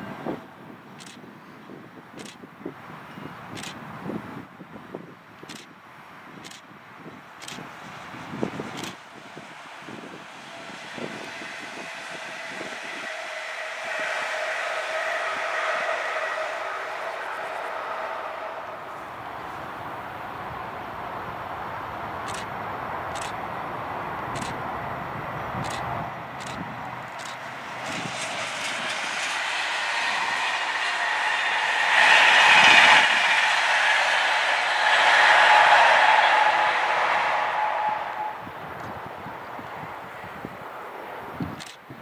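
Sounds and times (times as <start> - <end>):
train rolling on rails: 0.0 - 42.0.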